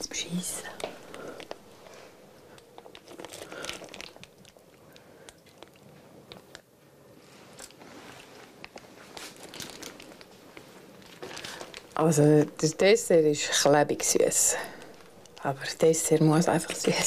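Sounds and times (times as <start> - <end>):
plastic piping bag crinkling: 0.0 - 6.6, 7.4 - 17.0.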